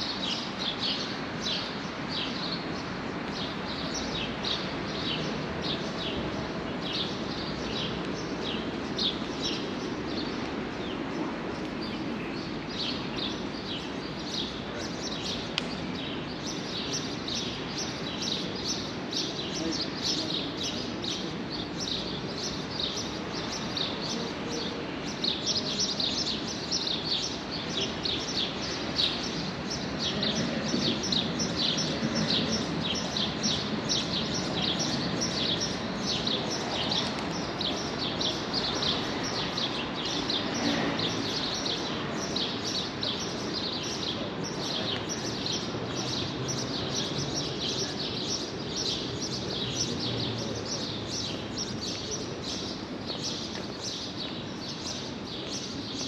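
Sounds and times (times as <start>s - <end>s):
small birds chirping: 0.0s - 56.0s
street background hum: 0.0s - 56.0s.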